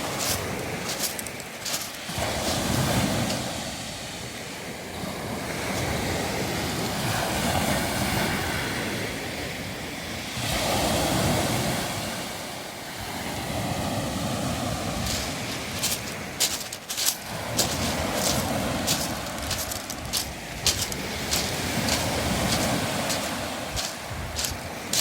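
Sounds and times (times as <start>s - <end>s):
waves washing over pebbles: 0.0s - 25.0s.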